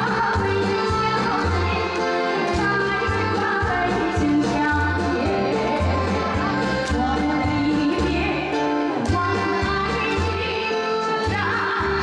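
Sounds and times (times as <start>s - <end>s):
woman singing into microphone: 0.0s - 12.0s.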